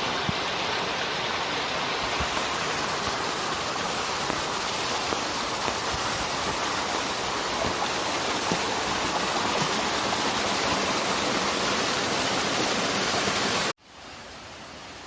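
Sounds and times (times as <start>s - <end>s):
heavy rain falling: 0.0s - 13.7s.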